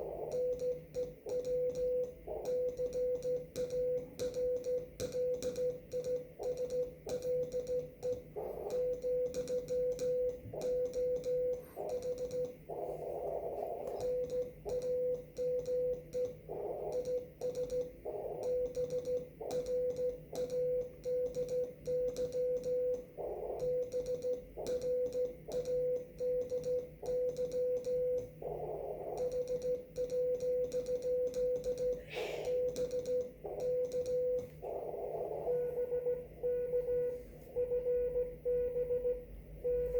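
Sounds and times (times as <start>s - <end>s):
keying clicks: 0.0s - 35.5s
faint low hum: 0.0s - 39.9s
morse code tone: 0.0s - 39.9s.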